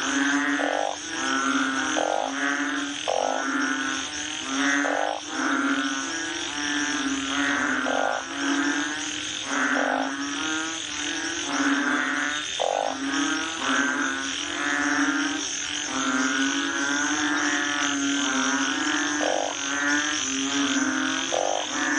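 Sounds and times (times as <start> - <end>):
frogs croaking in chorus: 0.0 - 21.9.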